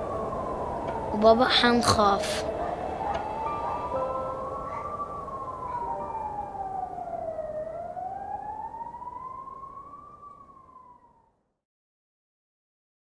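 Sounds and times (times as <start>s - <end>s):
siren wailing: 0.0s - 11.5s.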